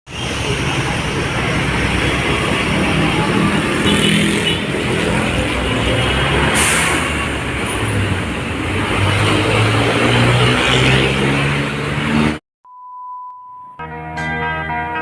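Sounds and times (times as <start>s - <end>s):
road traffic: 0.1s - 12.4s.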